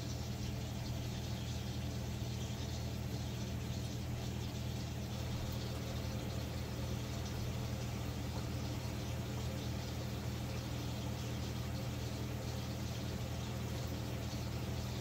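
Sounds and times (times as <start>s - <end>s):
aquarium pumps humming: 0.0s - 15.0s.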